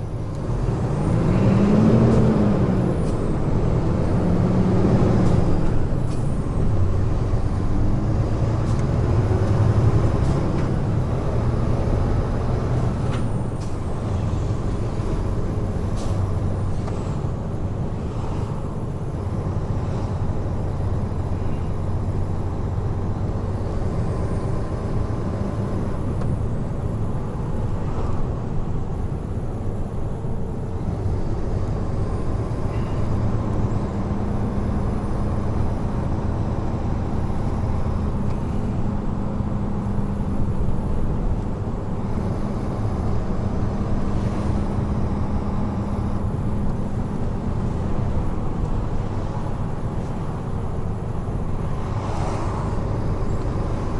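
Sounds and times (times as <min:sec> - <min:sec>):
truck engine drone: 0:00.0 - 0:53.9
tyre and road noise: 0:00.0 - 0:53.9.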